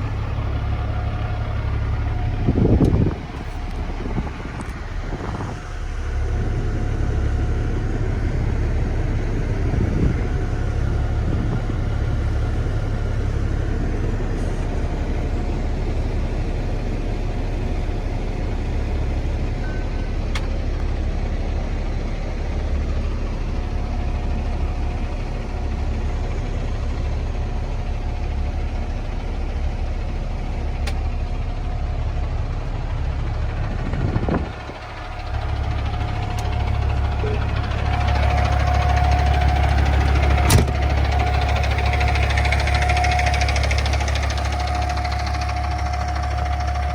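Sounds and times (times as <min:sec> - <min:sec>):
truck engine rumbling: 0:00.0 - 0:46.9.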